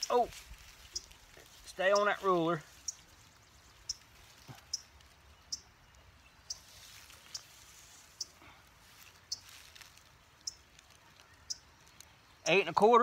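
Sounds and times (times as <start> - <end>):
rustling in grass: 0.0 - 12.9.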